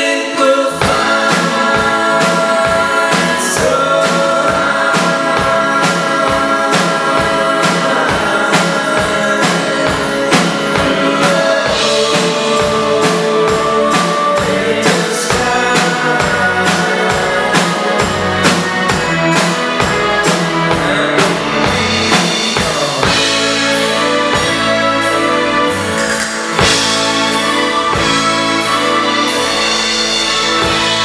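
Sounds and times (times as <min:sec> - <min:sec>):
live pop-rock band: 0:00.0 - 0:31.0
steady drum beat: 0:00.8 - 0:31.0.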